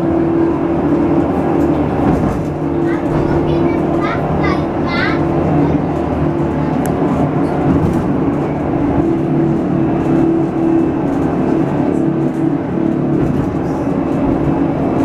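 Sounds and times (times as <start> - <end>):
tram motor hum: 0.0 - 15.0
wheels rumbling on rails: 0.0 - 15.0.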